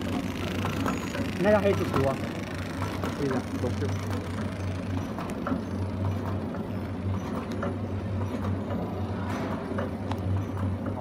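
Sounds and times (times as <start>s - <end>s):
packing machine hum: 0.0s - 11.0s.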